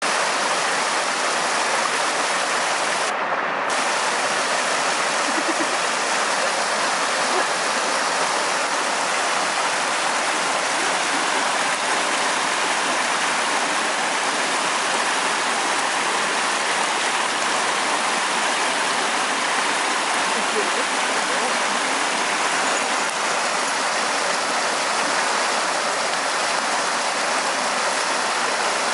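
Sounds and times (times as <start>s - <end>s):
waves washing on shore: 0.0s - 28.9s.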